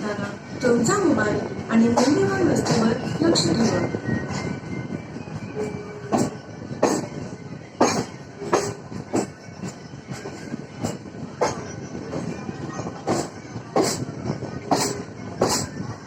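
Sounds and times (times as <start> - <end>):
train rumble inside coach: 0.0 - 16.0.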